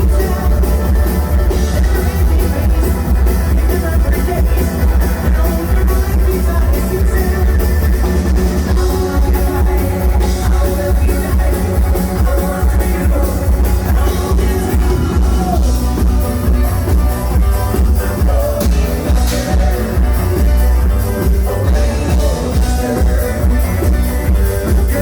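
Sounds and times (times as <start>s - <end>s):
drums: 0.0s - 25.0s
heavy bass line: 0.0s - 25.0s
live band playing: 0.0s - 25.0s.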